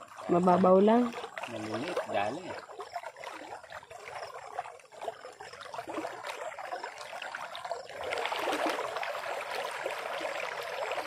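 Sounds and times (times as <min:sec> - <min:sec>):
river water trickling and splashing: 0:00.0 - 0:11.0.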